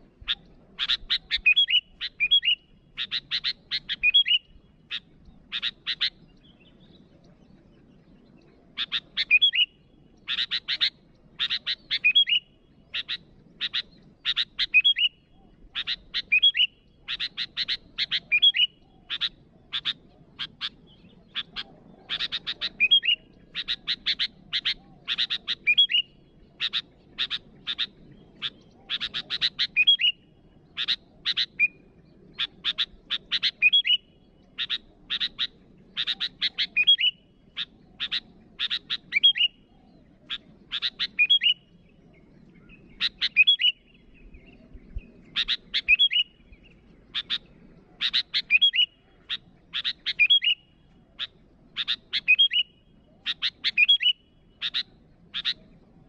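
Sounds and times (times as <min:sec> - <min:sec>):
bulbul chattering calls: 0:00.2 - 0:56.0.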